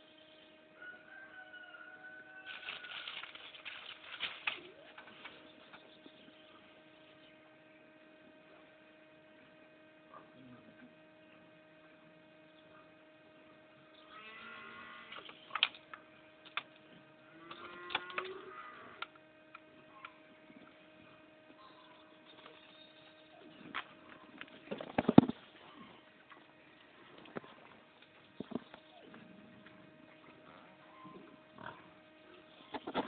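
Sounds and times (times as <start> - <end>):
faint electrical hum: 0.0 - 33.0.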